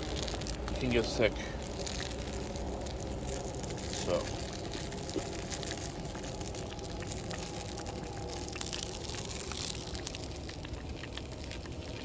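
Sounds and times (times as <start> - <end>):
fire crackling and popping: 0.0 - 12.0
low rumble: 0.0 - 12.0.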